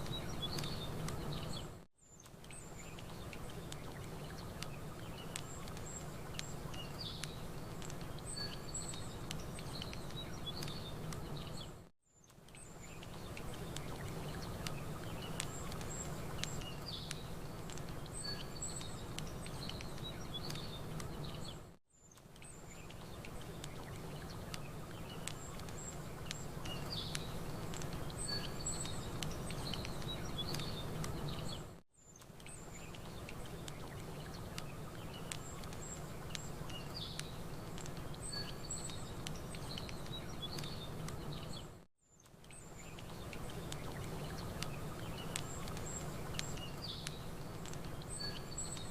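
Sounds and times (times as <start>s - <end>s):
campfire crackling: 0.0s - 48.9s
small birds chirping: 0.0s - 48.9s.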